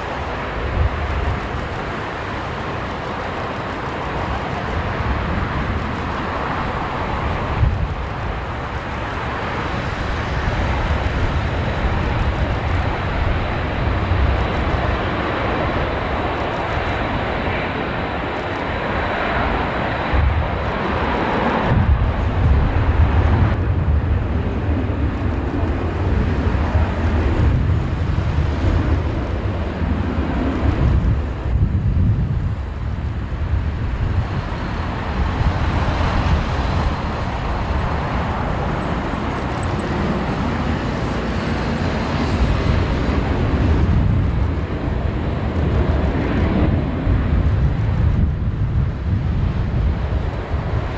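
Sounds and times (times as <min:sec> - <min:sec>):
jet engine rumble: 0:00.0 - 0:50.9.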